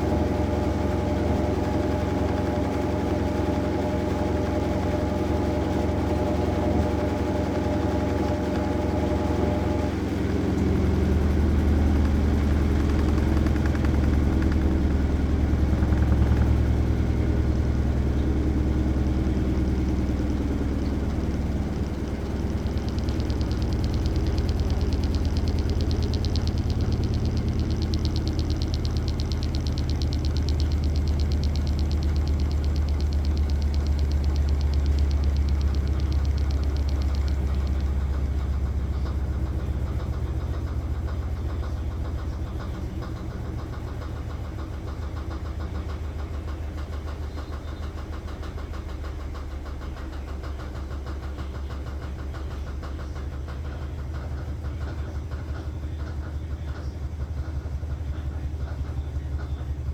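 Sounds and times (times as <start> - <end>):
washing machine drum spinning: 0.0 - 59.9.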